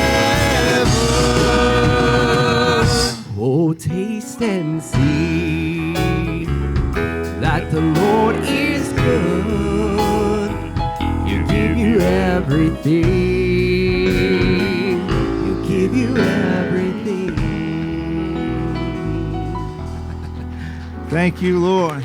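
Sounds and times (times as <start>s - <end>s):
country gospel music with guitar: 0.0s - 22.0s.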